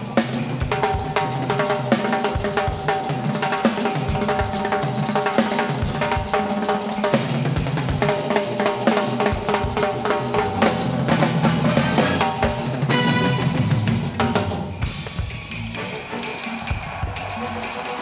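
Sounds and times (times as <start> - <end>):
drum and cymbal solo: 0.0 - 18.0.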